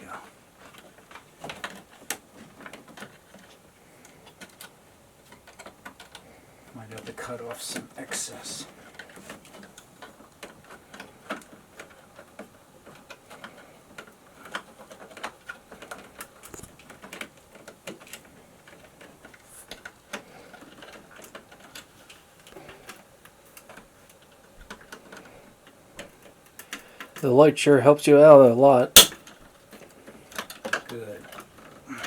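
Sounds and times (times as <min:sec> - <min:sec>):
electrical cable clicking and tapping: 0:00.6 - 0:07.9, 0:08.8 - 0:27.2.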